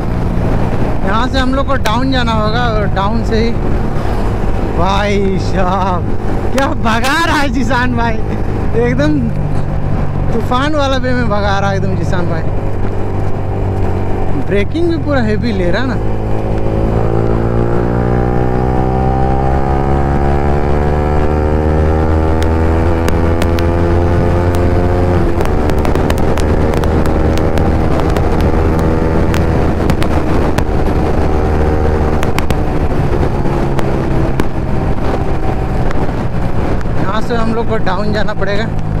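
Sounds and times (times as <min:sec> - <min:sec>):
motorcycle engine accelerating: 0:00.0 - 0:39.0
wind noise on microphone: 0:00.0 - 0:39.0.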